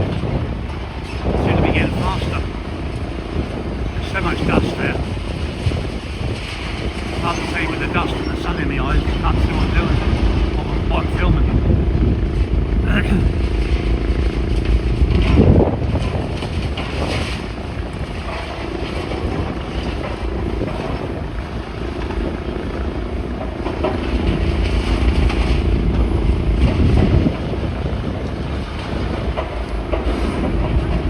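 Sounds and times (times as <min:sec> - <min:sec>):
engine running: 0:00.0 - 0:31.0
heavy low rumble: 0:00.0 - 0:31.0.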